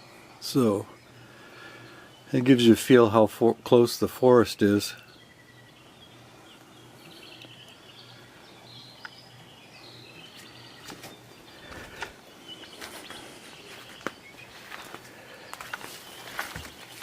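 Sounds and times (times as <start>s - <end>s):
birds chirping and trilling: 0.0s - 17.0s.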